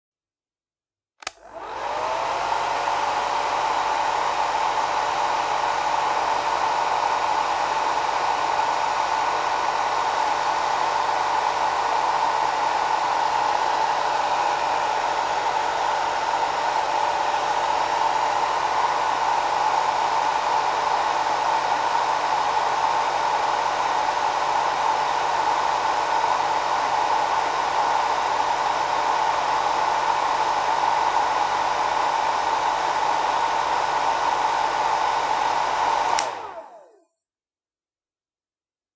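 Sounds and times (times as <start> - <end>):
hair dryer whirring: 1.2 - 37.1.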